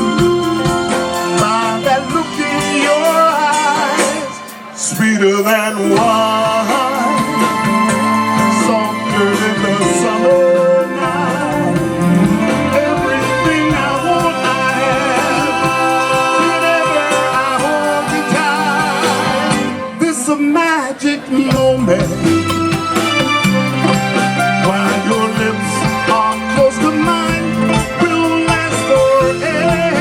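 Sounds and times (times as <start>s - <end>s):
person singing: 0.0s - 30.0s
soul band playing: 0.0s - 30.0s.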